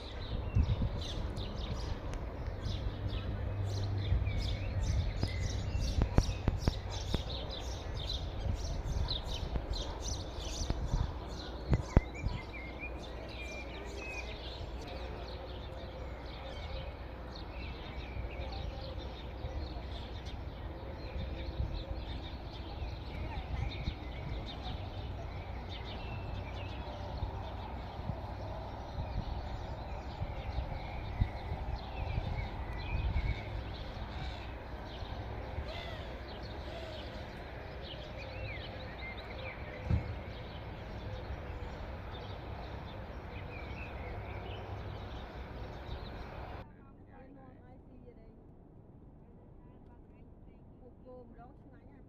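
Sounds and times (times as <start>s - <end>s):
small birds chirping: 0.0s - 46.6s
steady low rumble: 0.0s - 52.0s.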